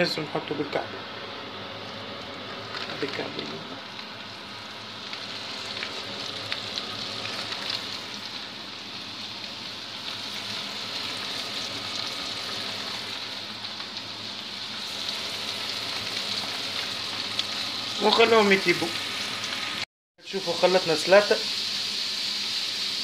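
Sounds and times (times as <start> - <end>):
sausages sizzling in a frying pan: 0.8 - 23.0.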